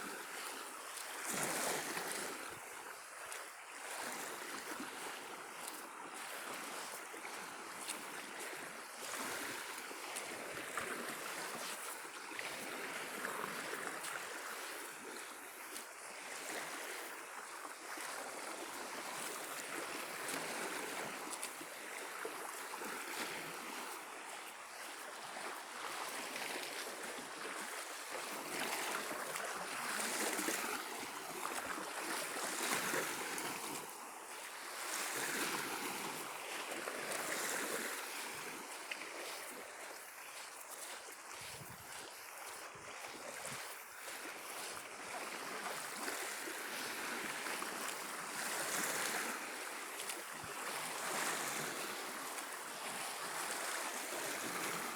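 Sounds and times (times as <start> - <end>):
small waves washing onto shore: 0.0 - 54.9.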